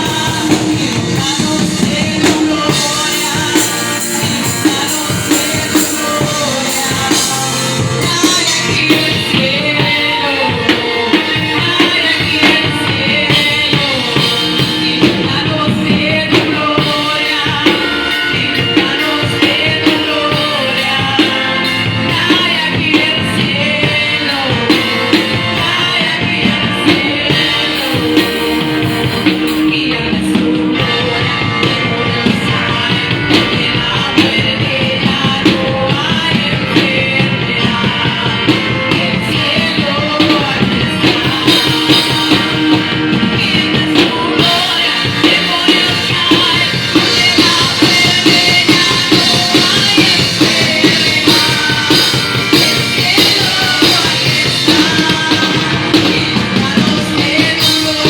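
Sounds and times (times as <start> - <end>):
drum kit beat: 0.0 - 58.0
live worship band playing: 0.0 - 58.0
people singing: 0.0 - 58.0.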